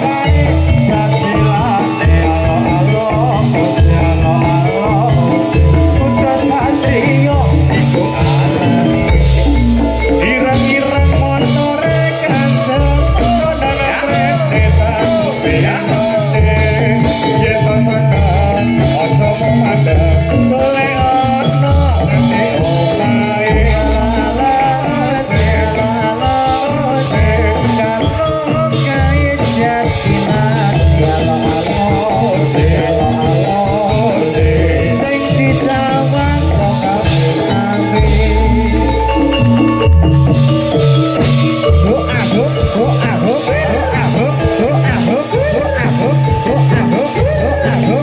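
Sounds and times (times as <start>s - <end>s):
deep bass notes: 0.0s - 48.0s
drums: 0.0s - 48.0s
gamelan metallophones: 0.0s - 48.0s
person singing: 0.0s - 48.0s.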